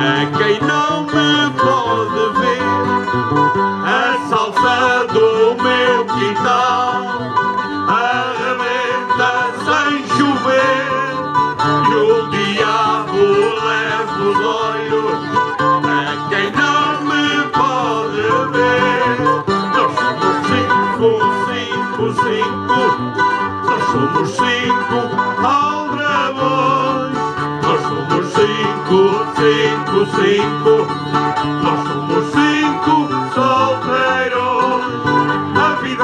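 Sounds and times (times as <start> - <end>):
person singing: 0.0 - 36.0
plucked string instruments: 0.0 - 36.0.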